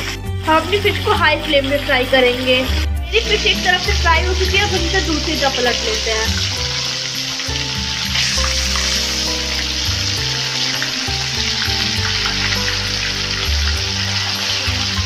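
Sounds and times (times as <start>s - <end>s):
background music low notes: 0.0s - 15.0s
fish sizzling in hot oil: 0.0s - 15.0s.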